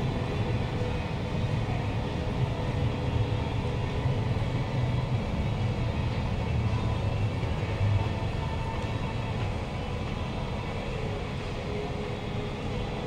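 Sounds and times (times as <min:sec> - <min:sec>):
metro station hum and rumble: 0:00.0 - 0:13.0.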